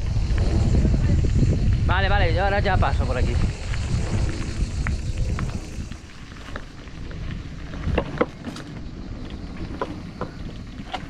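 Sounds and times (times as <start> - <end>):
bike rattling and knocking: 0.0 - 11.0
bike tyres rumbling on trail: 0.0 - 11.0
wind on microphone: 0.0 - 11.0.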